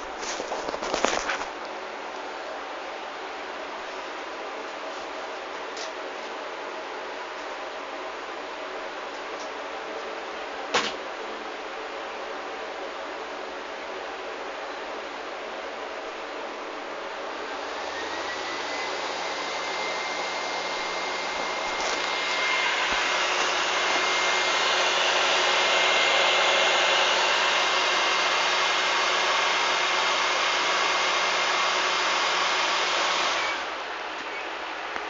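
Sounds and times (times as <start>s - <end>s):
cooling fan whirring: 0.0s - 35.0s.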